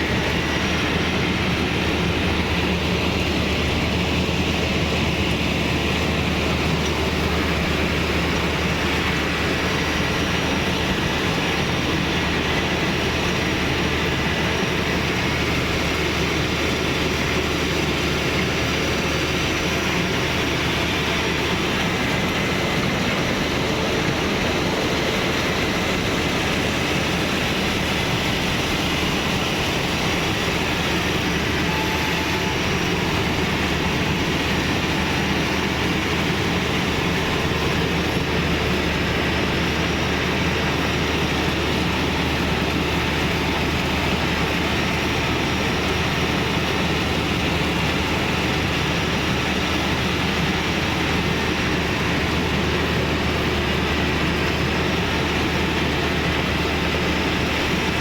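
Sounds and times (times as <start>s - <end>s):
harvesting machine running: 0.0s - 58.0s.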